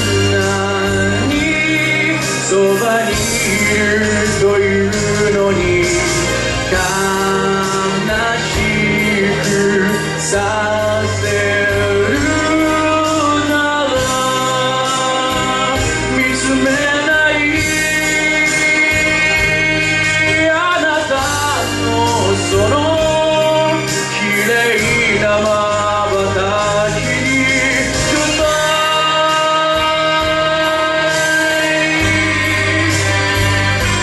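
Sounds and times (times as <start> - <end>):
karaoke backing track: 0.0 - 34.0
man singing into microphone: 0.0 - 34.0.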